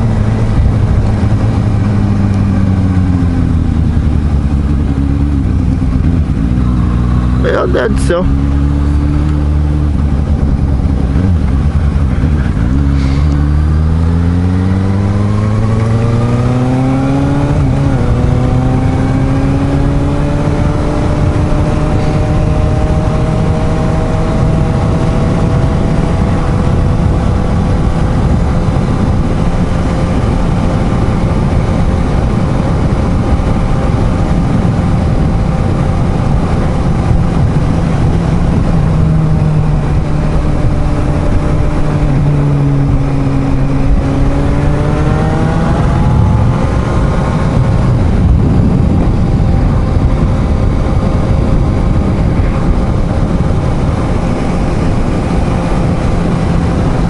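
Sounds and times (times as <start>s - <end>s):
wind noise on microphone: 0.0s - 7.4s, 8.2s - 57.0s
motorcycle engine accelerating: 0.0s - 57.0s.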